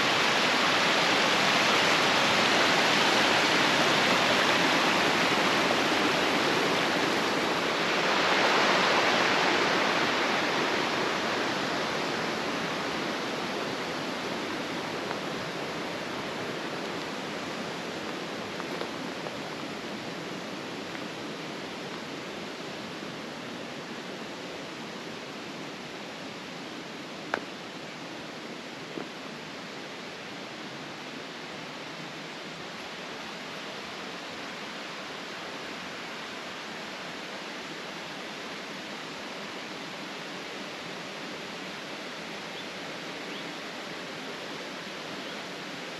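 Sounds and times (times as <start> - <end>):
water rushing along a canal: 0.0 - 45.9.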